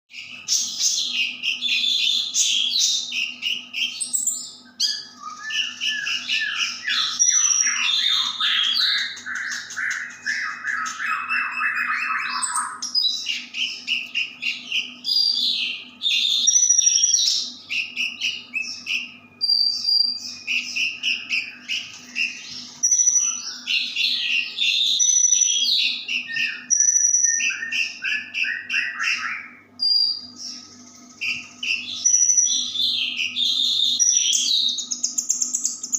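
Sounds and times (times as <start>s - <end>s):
bird singing whistled phrases: 0.1s - 35.9s
low rattling bird trill: 0.2s - 35.9s.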